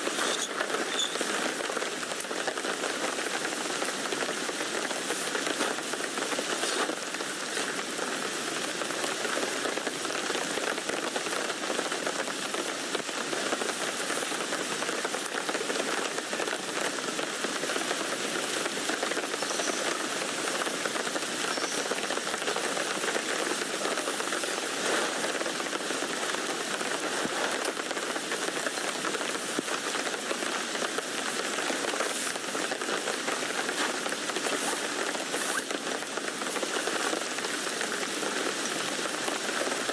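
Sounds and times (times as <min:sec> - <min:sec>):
rain on a tent: 0:00.0 - 0:39.9.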